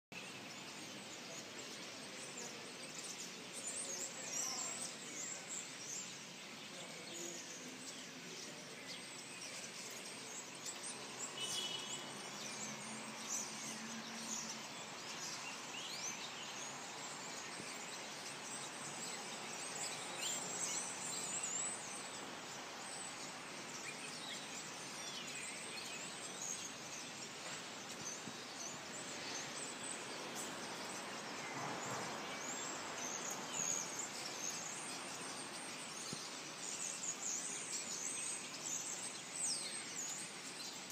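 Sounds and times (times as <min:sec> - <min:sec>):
background hiss: 0:00.1 - 0:40.9
wild birds chirping: 0:00.1 - 0:40.9.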